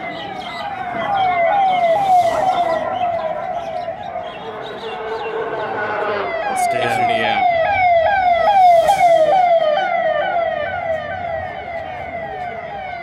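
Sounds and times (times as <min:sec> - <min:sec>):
siren falling wail: 0:00.0 - 0:13.0.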